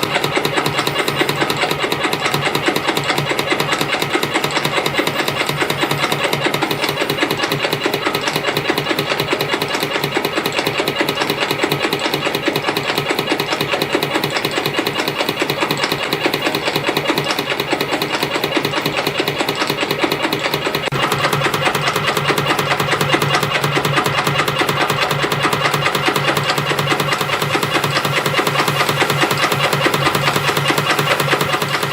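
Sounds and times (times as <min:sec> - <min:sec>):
spring coiling machine clattering: 0:00.0 - 0:31.9.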